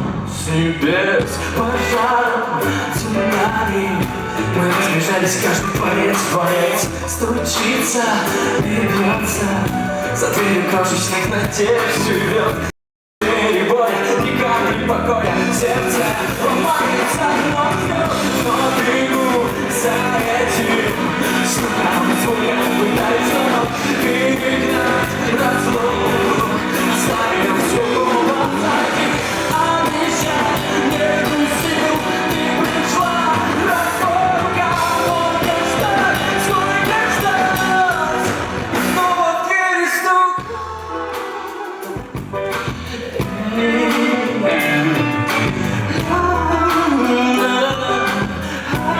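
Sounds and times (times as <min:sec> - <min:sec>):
live rock band: 0:00.0 - 0:48.9
man singing: 0:00.0 - 0:48.9.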